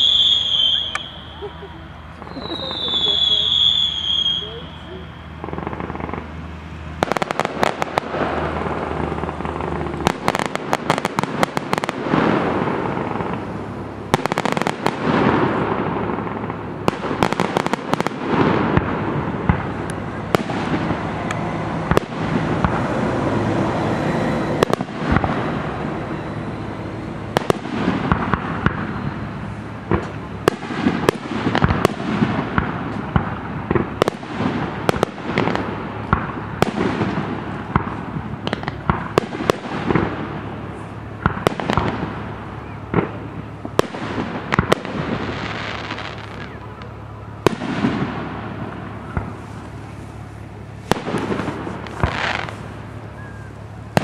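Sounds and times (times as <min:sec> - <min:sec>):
continuous wash of noise: 0:00.0 - 0:54.0
fireworks bursting with sharp bangs: 0:00.0 - 0:54.0.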